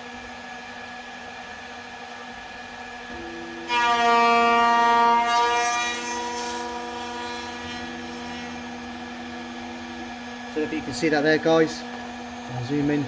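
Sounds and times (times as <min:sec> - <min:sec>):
cnc router whine: 0:00.0 - 0:13.0.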